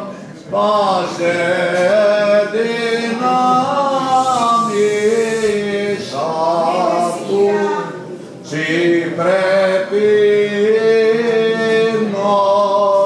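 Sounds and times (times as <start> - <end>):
person chanting ornamented melody: 0.0 - 13.0.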